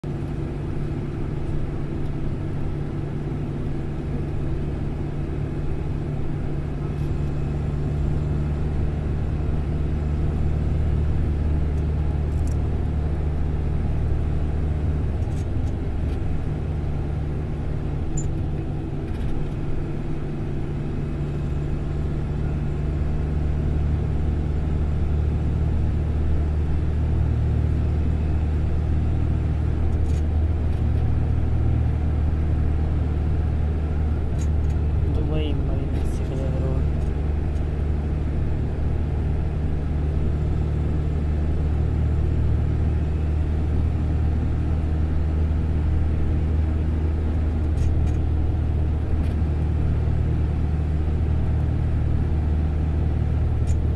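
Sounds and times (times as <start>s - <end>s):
bus engine and tyres rumbling: 0.0s - 53.9s.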